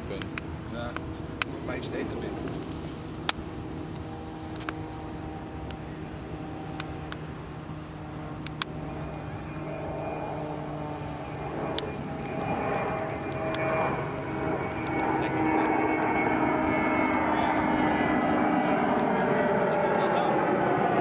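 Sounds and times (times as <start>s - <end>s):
campfire crackling and popping: 0.0s - 21.0s
engine drone: 0.0s - 21.0s.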